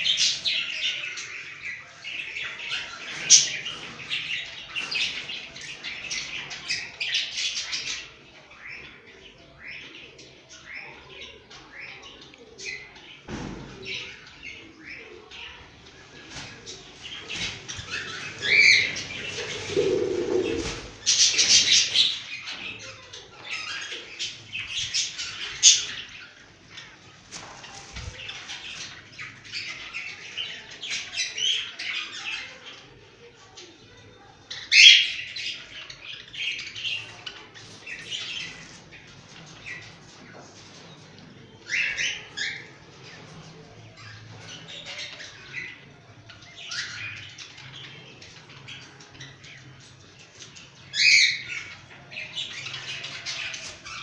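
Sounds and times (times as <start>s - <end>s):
cage birds chirping and chattering: 0.0s - 54.0s.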